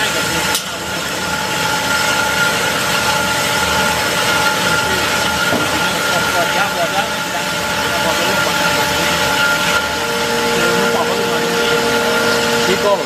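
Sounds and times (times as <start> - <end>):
bandsaw machine whine and hum: 0.0 - 13.0.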